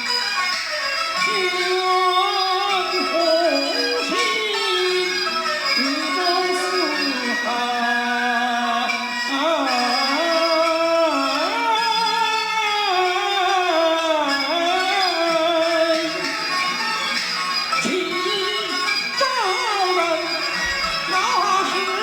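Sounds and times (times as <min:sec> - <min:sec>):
instrumental accompaniment: 0:00.0 - 0:22.0
man singing opera: 0:01.2 - 0:16.3, 0:17.8 - 0:22.0.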